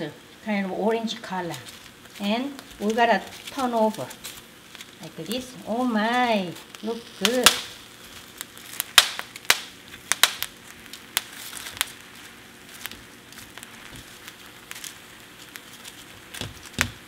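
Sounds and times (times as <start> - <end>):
shrimp crackling on hot salt: 0.0 - 17.0.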